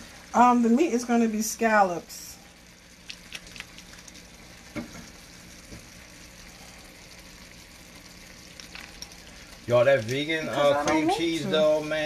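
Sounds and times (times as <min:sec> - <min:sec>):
spinach simmering and sizzling: 0:00.0 - 0:12.0.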